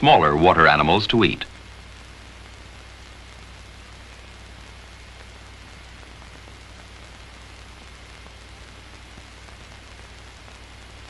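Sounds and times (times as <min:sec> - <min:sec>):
old film soundtrack hiss: 0:00.0 - 0:11.0.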